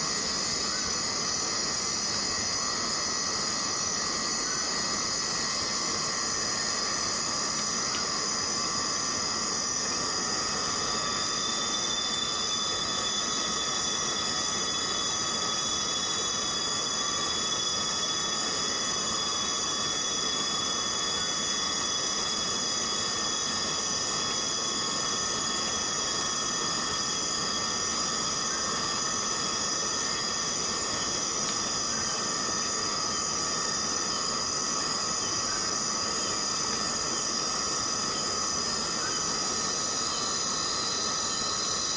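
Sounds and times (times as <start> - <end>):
insect chorus drones: 0.0 - 41.9
thin whining tone: 0.0 - 41.9.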